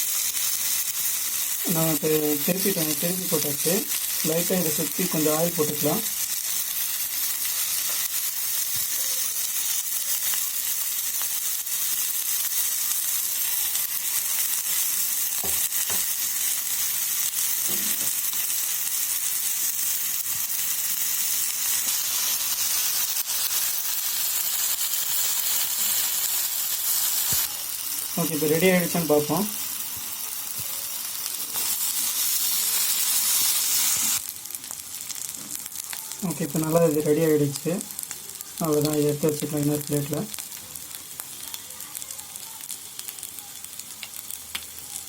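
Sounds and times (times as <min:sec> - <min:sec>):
food sizzling in a pan: 0:00.0 - 0:45.0.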